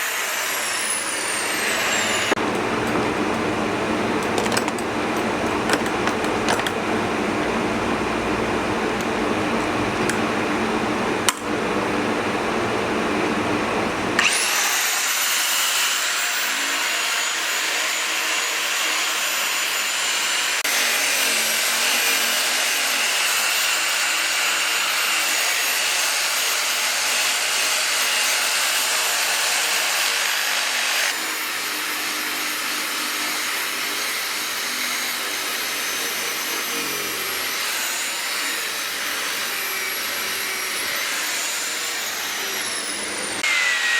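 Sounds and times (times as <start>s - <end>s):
power tool high whine: 0.0s - 6.8s, 7.6s - 43.9s.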